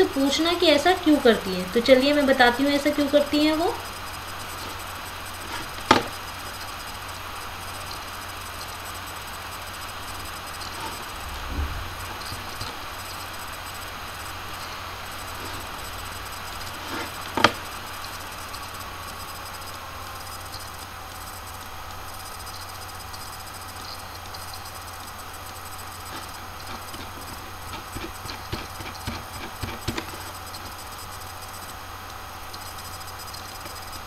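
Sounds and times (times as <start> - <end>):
background hum and hiss: 0.0 - 34.0.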